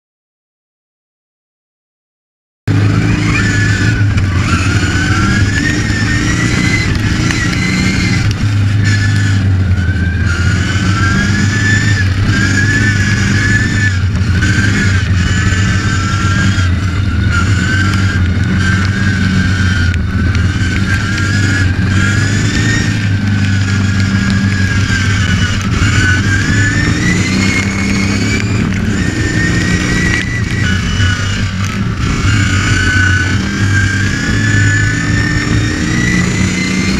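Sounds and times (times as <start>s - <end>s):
lawn mower engine revving: 2.7s - 36.9s.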